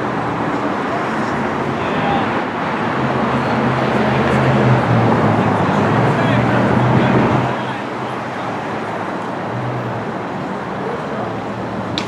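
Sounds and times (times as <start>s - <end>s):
street traffic engine hum: 0.0s - 12.0s
faint indistinct voices: 0.3s - 12.0s.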